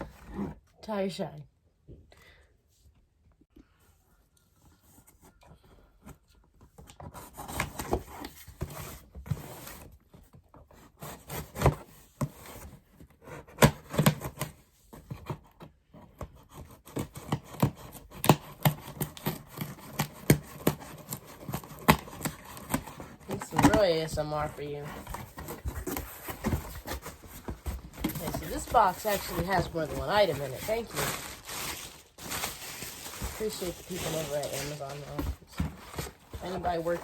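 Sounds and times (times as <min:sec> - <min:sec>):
cardboard rubbing and crinkling: 0:07.0 - 0:37.0.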